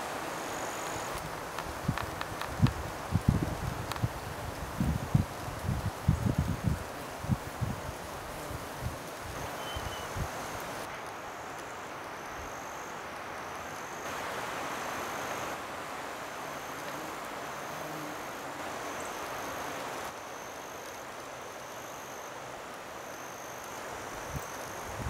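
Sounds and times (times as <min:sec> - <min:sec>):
wind rushing through trees: 0:00.0 - 0:25.0.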